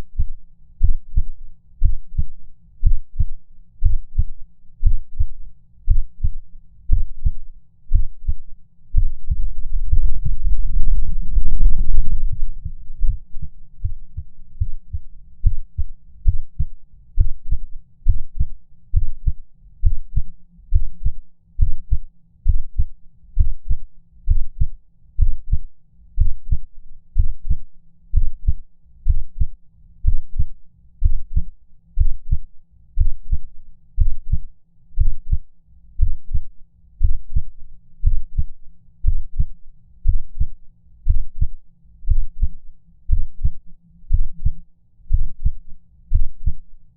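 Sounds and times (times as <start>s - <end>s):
heartbeat thumps: 0.0s - 46.6s.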